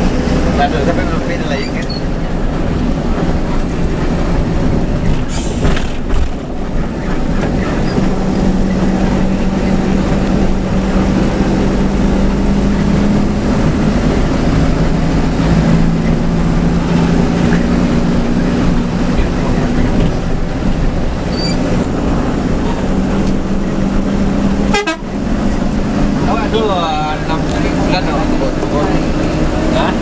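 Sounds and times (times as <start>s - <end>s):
bus diesel engine droning: 0.0s - 30.0s
road and tyre noise: 0.0s - 30.0s.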